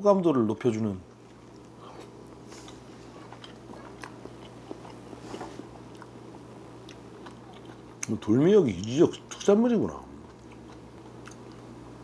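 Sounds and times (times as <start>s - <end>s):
low steady hum: 0.0s - 12.0s
man chewing food: 1.1s - 9.4s, 10.0s - 12.0s.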